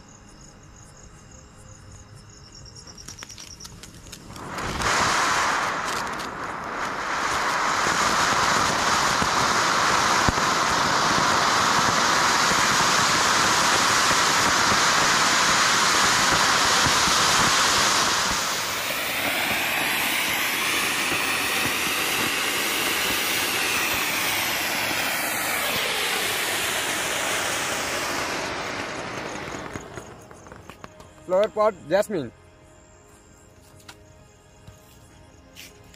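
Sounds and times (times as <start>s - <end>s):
firework fountain hissing: 2.8s - 32.2s.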